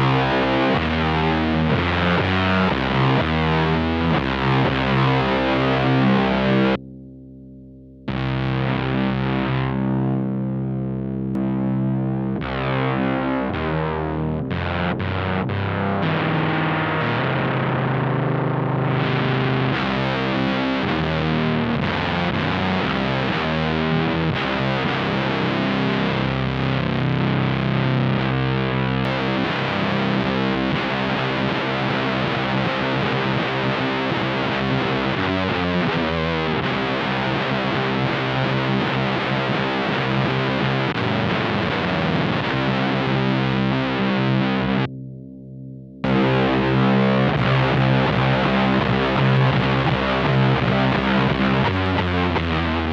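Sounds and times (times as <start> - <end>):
distorted electric guitar riff: 0.0 - 52.9.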